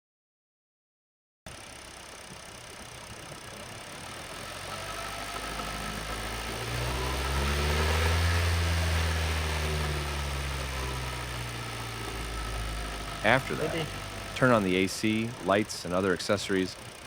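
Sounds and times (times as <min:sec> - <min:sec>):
car engine revving: 0:01.5 - 0:17.0.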